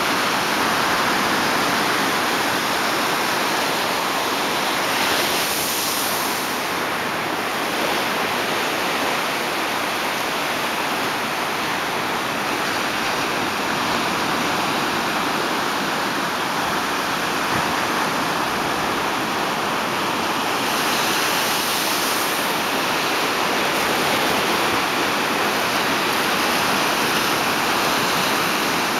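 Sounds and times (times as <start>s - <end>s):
small waves breaking: 0.0s - 28.9s.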